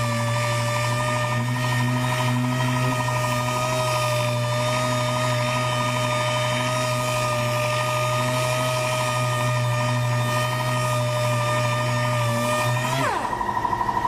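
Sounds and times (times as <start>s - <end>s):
power sander whining: 0.0s - 14.0s.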